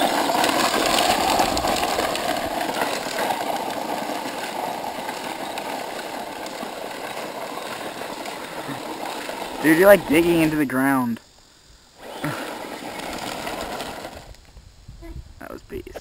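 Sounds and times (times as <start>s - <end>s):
electric toy truck motor: 0.0s - 11.2s, 12.0s - 14.5s
tyres digging into dirt: 0.0s - 11.2s, 12.0s - 14.4s.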